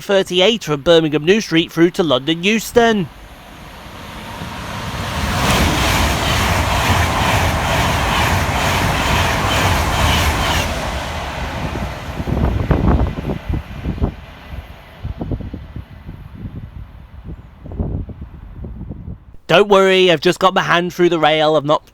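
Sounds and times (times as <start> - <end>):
electric train passing at speed: 0.1 - 19.4.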